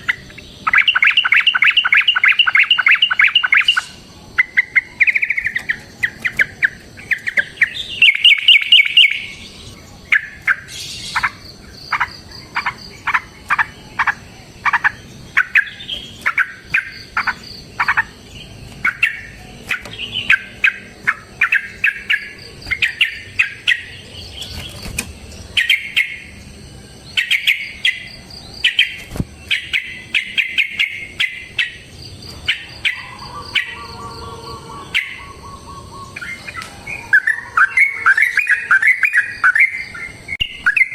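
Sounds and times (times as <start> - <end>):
faint high insect buzz: 0.0 - 40.8
bird chirping: 0.0 - 40.9.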